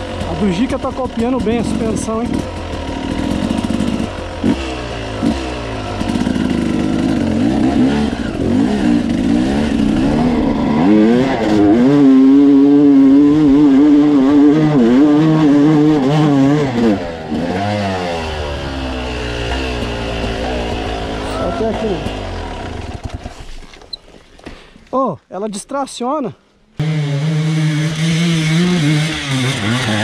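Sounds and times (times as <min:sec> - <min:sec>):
dirt bike engine revving: 0:00.0 - 0:23.4, 0:26.8 - 0:30.0.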